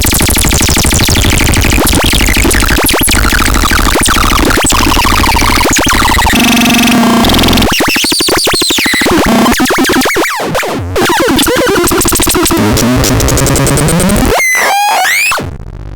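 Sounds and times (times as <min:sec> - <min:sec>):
fast stuttering pulse: 0:00.0 - 0:15.9
harsh electronic noise with pitch glides: 0:00.0 - 0:15.9.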